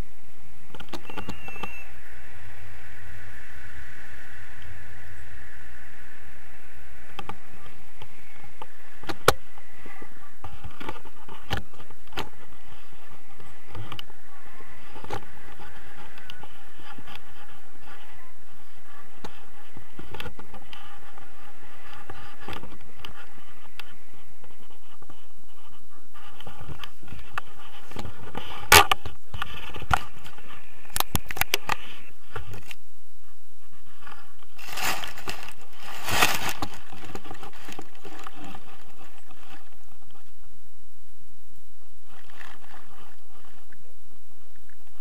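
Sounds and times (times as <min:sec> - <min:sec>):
steady rushing noise: 0:00.0 - 0:45.0
rough rustling: 0:00.1 - 0:40.7.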